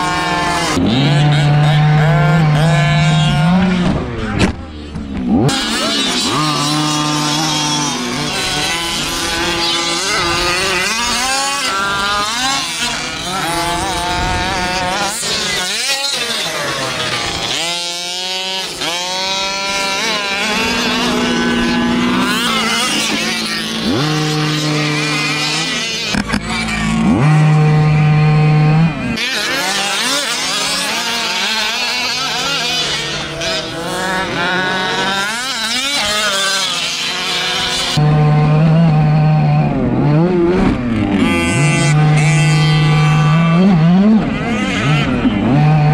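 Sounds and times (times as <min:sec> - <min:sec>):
small two-stroke engines revving: 0:00.0 - 0:45.9.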